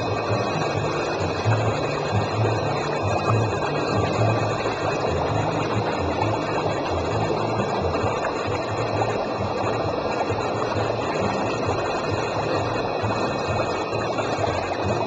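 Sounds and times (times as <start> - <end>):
aquarium water bubbling: 0.0 - 15.0
low pulsing hum: 0.0 - 15.0.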